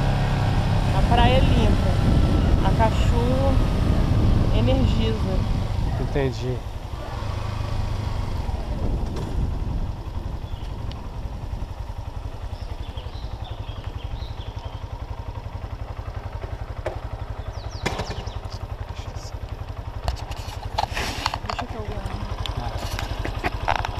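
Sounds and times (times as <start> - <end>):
motorcycle engine rumbling: 0.0 - 23.9.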